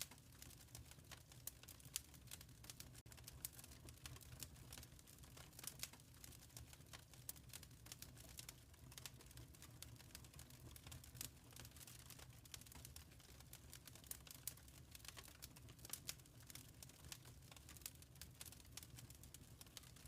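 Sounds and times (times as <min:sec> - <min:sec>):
wood fire crackling faintly: 0:00.0 - 0:20.0.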